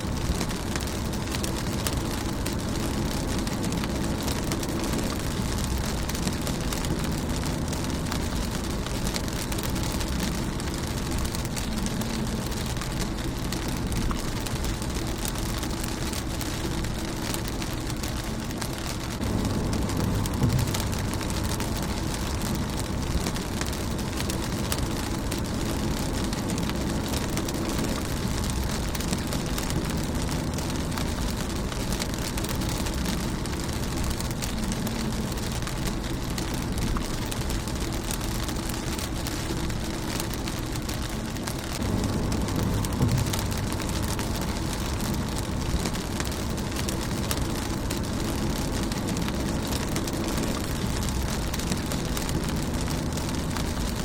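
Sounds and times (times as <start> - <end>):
low rumble: 0.0 - 54.0
rain on a car windshield: 0.0 - 54.0.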